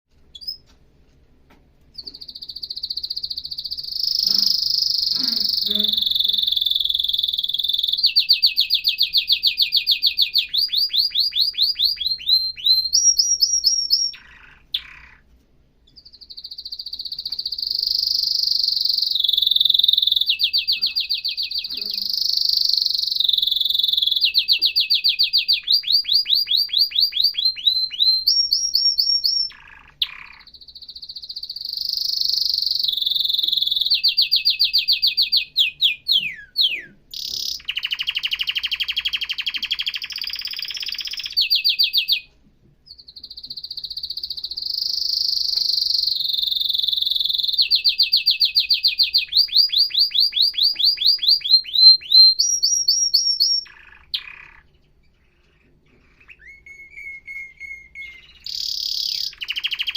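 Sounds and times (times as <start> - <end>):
canary singing: 0.1 - 0.8, 1.5 - 59.9.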